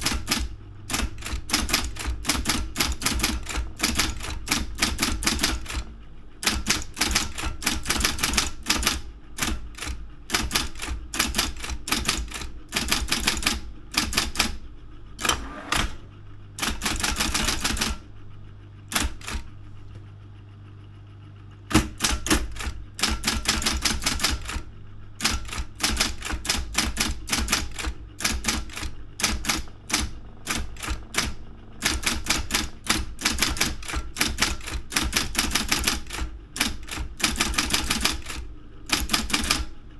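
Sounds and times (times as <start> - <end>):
typewriter key strikes: 0.0 - 14.6, 16.6 - 18.0, 21.7 - 24.6, 25.2 - 39.6
typewriter motor hum: 0.0 - 39.9.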